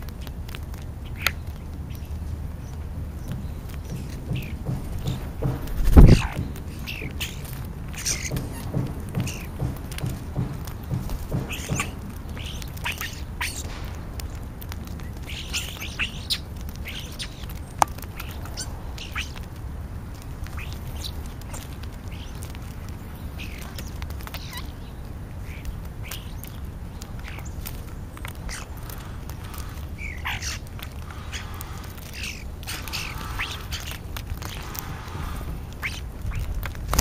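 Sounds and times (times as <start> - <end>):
starlings squawking and chirping: 1.0 - 19.6, 20.2 - 36.8.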